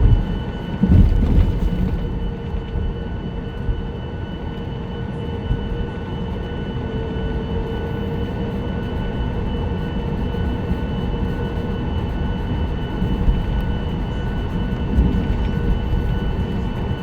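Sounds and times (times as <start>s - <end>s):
airplane cabin rumble: 0.0s - 17.0s
steady whining tones: 0.0s - 17.0s.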